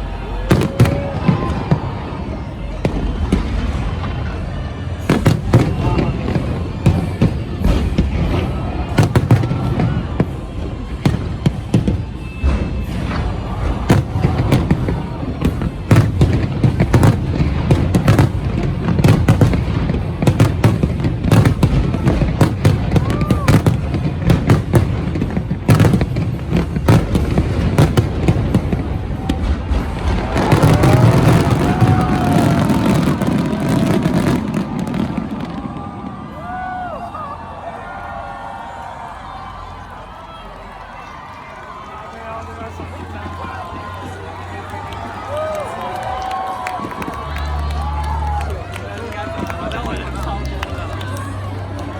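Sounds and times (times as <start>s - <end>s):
crowd voices: 0.0s - 51.9s
fireworks bangs and crackle: 0.0s - 51.9s.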